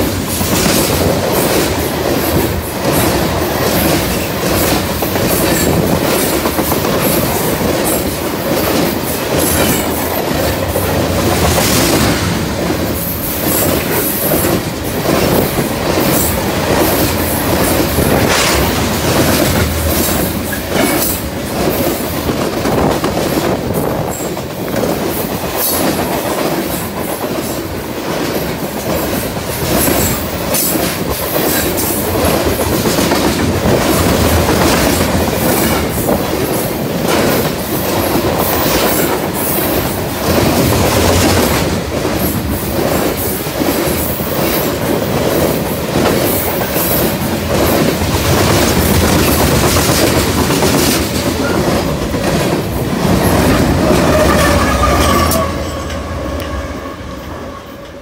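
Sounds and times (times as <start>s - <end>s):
wheels clacking over rail joints: 0.0s - 56.7s
train wheels rumbling on rails: 0.0s - 58.0s.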